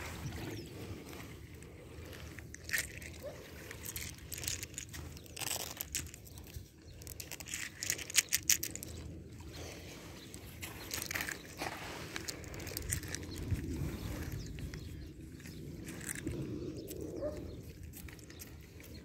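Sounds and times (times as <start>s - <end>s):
seashells clicking together: 2.4s - 9.2s, 10.3s - 19.0s.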